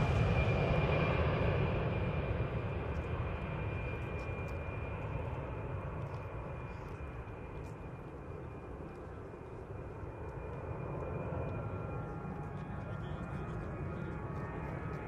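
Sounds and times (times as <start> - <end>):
aircraft engine rumble and whine: 0.0 - 15.0.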